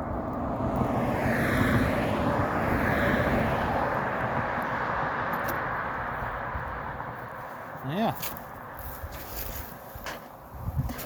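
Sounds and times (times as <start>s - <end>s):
vehicle passing by: 0.0s - 9.6s.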